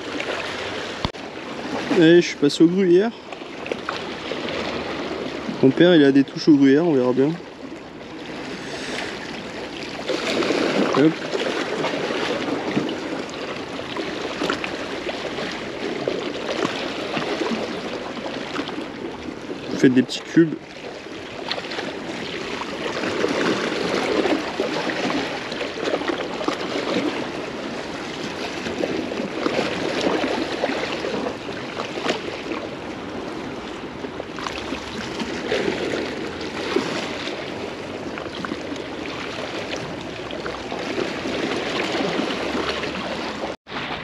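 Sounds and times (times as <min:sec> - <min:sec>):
sea water lapping on rocks: 0:00.0 - 0:44.0.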